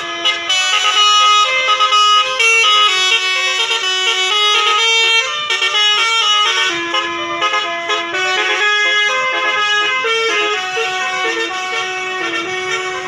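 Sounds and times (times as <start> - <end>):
multi-tone horn playing a tune: 0.0 - 13.0.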